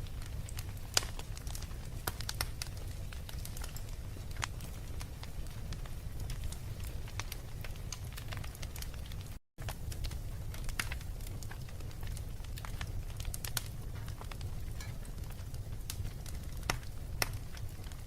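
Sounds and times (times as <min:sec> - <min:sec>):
wood fire crackling: 0:00.0 - 0:18.0
sharp pops of burning wood: 0:00.2 - 0:18.0.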